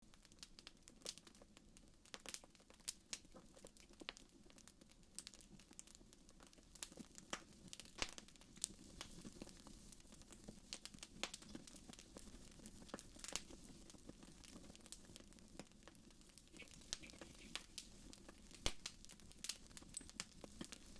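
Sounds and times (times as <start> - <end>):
fire crackling and popping: 0.0 - 20.9.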